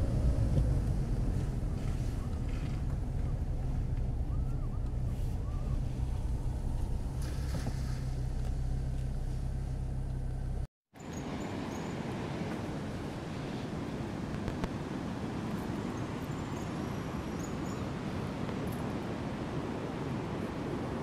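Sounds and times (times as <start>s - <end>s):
car engine and road rumble: 0.0s - 18.6s
wind: 0.0s - 21.0s.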